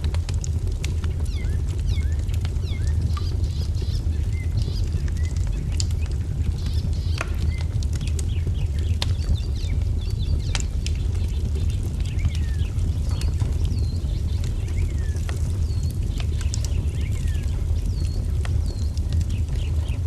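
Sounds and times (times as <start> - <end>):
low steady rumble: 0.0 - 20.0
wood fire crackling and popping: 0.0 - 20.0
small birds chirping: 0.7 - 20.0.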